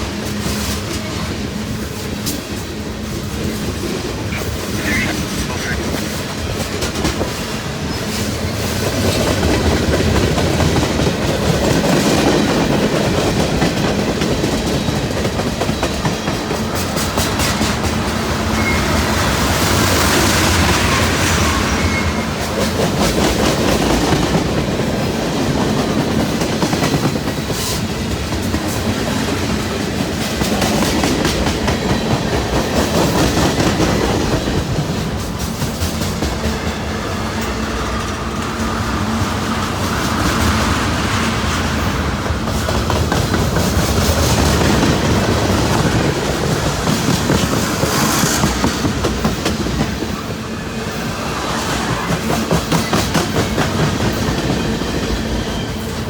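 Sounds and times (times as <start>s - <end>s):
train rumble: 0.0s - 56.0s
train wheels clacking over rail joints: 0.0s - 56.0s.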